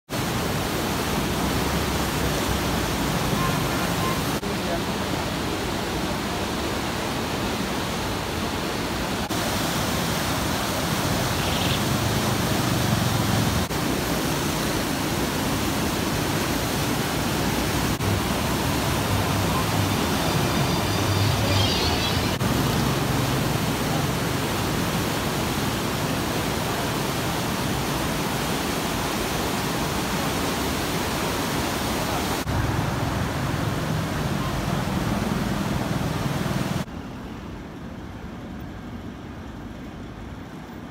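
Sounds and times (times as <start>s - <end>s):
turbulent water rushing: 0.1s - 36.9s.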